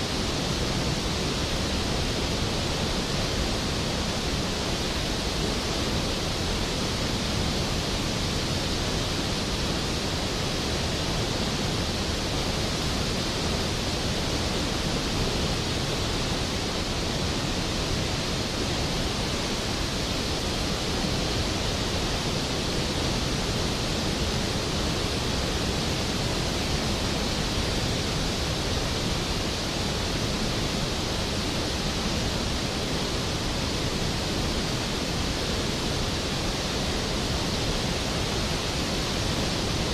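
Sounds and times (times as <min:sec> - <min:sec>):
large waterfall crashing: 0:00.0 - 0:39.9.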